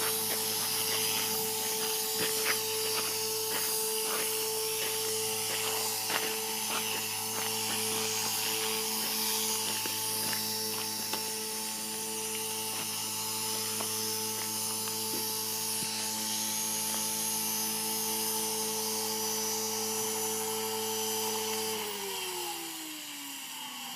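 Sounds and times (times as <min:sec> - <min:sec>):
rc helicopter rotor hum: 0:00.0 - 0:23.9
rotor spooling down: 0:00.0 - 0:23.9.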